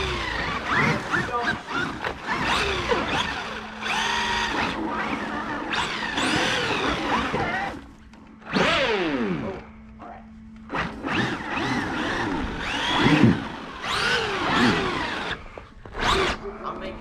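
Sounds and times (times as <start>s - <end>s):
rc truck electric motors whining: 0.0s - 9.8s, 10.6s - 16.5s.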